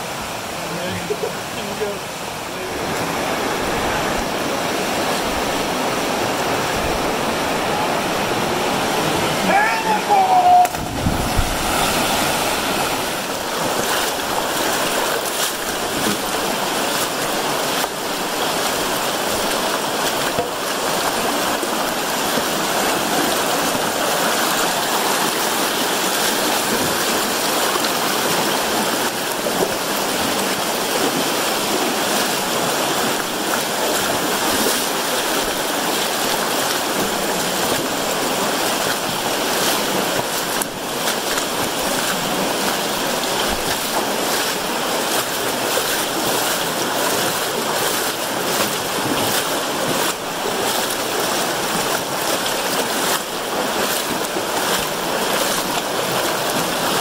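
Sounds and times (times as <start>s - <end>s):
river water rushing: 0.0s - 57.0s
legs splashing through water: 2.7s - 57.0s.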